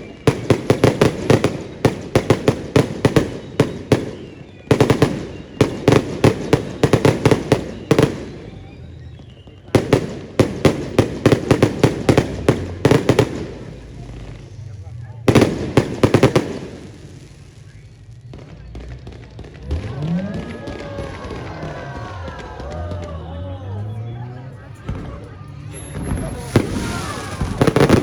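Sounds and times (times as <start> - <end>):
fireworks banging: 0.0 - 28.0.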